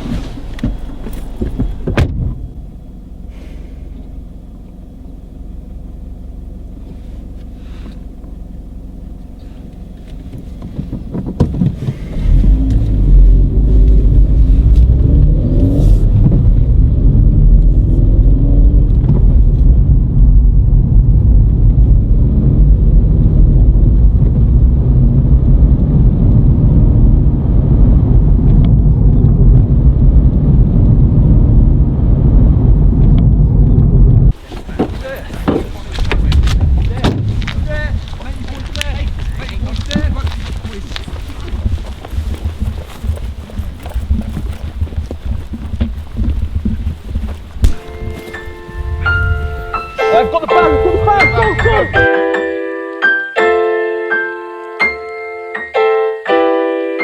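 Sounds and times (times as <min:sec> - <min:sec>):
car engine rumbling: 0:00.0 - 0:52.8.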